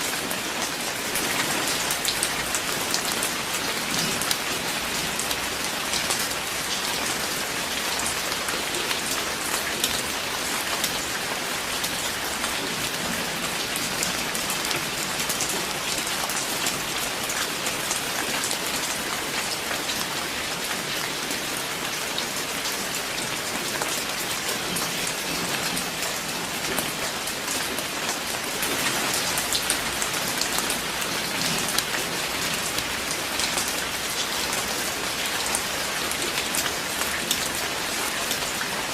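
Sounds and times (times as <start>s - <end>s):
rain patter on a surface: 0.0s - 38.9s.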